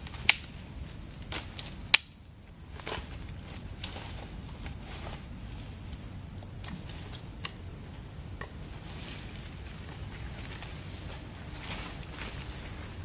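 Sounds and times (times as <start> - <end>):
dry leaves and twigs crackling: 0.0 - 13.0
insects buzzing: 0.0 - 13.0.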